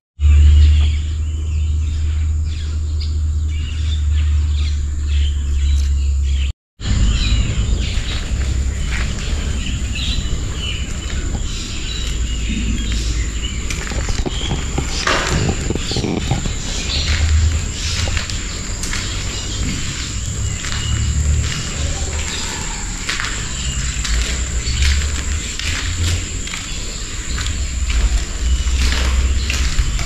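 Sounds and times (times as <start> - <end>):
birds chirping: 0.2 - 30.0
low rumble: 0.2 - 30.0
high insect drone: 0.3 - 30.0.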